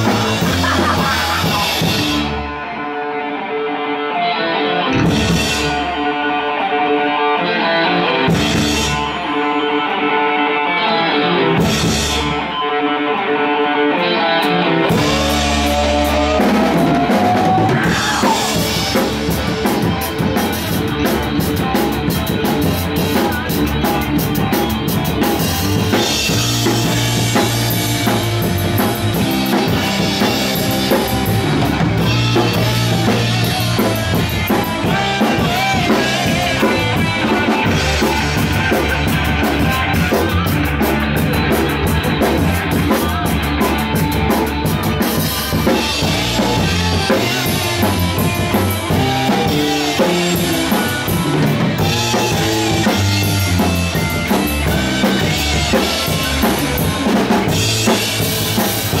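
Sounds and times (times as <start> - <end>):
drum kit: 0.0 - 2.8, 4.9 - 6.7, 8.0 - 9.4, 11.4 - 12.6, 14.4 - 59.0
electric bass: 0.0 - 3.0, 4.5 - 6.4, 7.4 - 9.6, 10.8 - 13.2, 14.0 - 59.0
electric guitars: 0.0 - 59.0.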